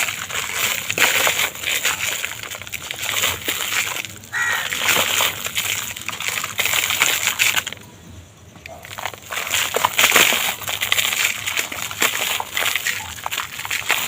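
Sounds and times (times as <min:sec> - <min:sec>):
brittle material crushed by hand: 0:00.0 - 0:07.8, 0:08.6 - 0:14.0.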